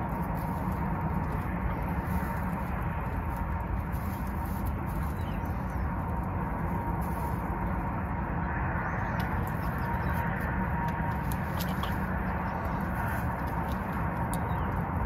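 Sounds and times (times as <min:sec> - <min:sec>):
chicks peeping softly: 0:00.0 - 0:07.8, 0:08.9 - 0:15.0
steady background rush: 0:00.0 - 0:15.0.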